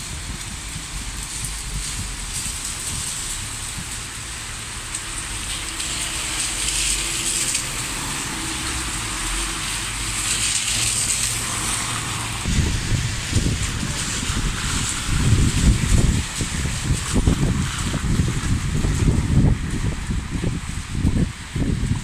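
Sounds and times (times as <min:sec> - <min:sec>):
low engine hum: 0:00.0 - 0:22.0
rain falling on road: 0:00.0 - 0:22.0
tyres hissing on wet road: 0:00.0 - 0:22.0.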